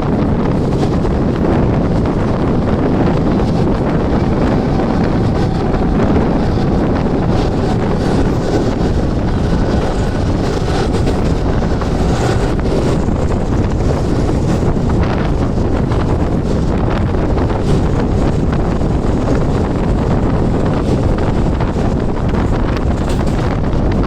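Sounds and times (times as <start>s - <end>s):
train carriage rumble: 0.0s - 24.0s
wind rushing across microphone: 0.0s - 24.0s.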